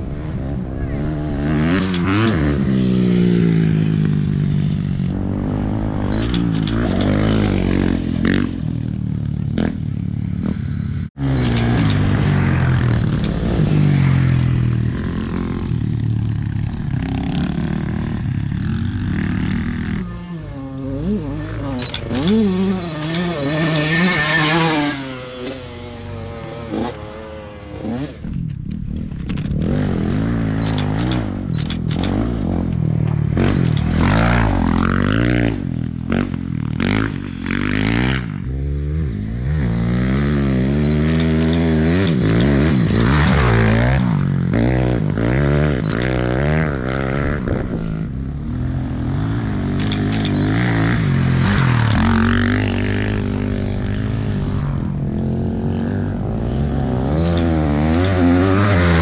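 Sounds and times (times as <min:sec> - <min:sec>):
off-road engines revving: 0:00.0 - 0:59.0.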